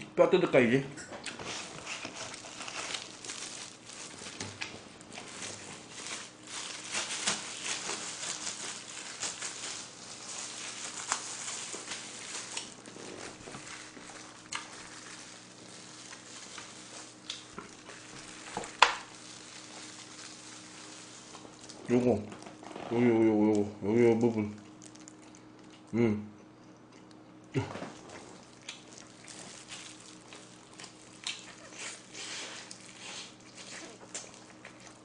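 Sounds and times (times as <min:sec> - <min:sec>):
hands pulling apart meat: 0:01.3 - 0:22.8, 0:27.8 - 0:35.0
plastic gloves crinkling: 0:01.3 - 0:23.2, 0:27.8 - 0:35.0.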